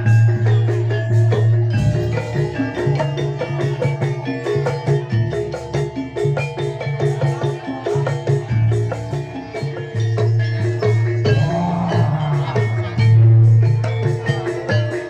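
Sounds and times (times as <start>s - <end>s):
metallophones playing repeating notes: 0.0s - 15.0s
percussion strikes: 0.0s - 15.0s.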